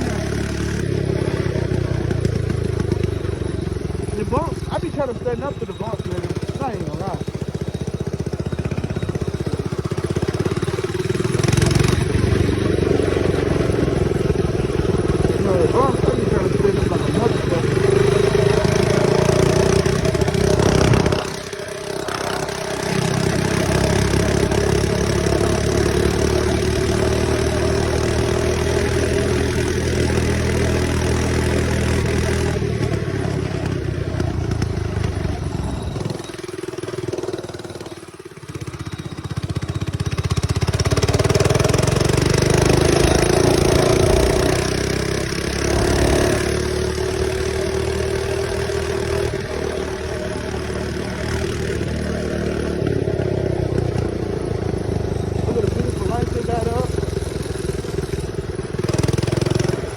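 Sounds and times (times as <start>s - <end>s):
mini bike engine revving: 0.0s - 59.9s.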